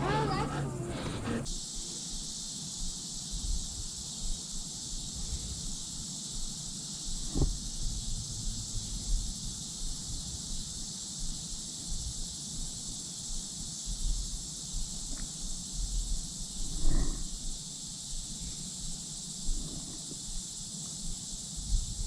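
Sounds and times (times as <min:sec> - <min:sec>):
insect chorus buzzing: 0:00.0 - 0:22.0.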